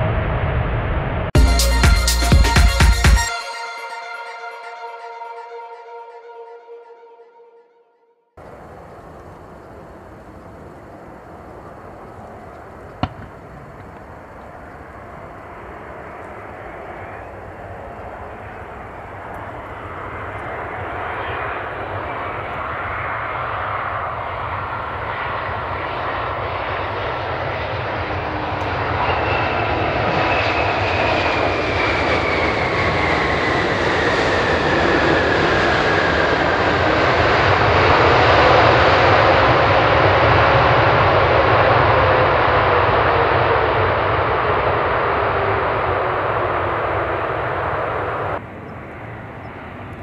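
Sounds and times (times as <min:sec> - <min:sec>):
jet airliner engine roar: 0:00.0 - 0:01.4, 0:08.4 - 0:50.0
jet engine whine: 0:00.0 - 0:01.4, 0:08.4 - 0:50.0.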